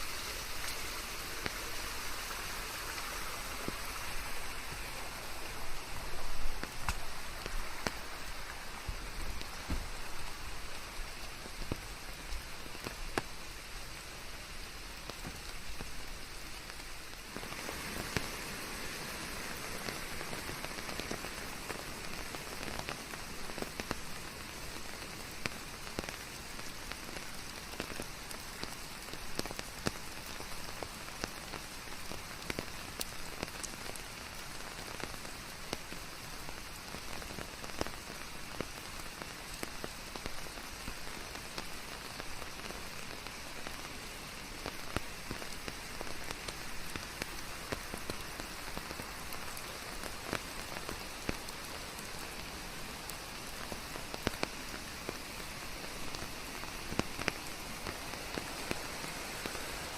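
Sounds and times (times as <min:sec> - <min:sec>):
rain on leaves: 0:00.0 - 0:59.9.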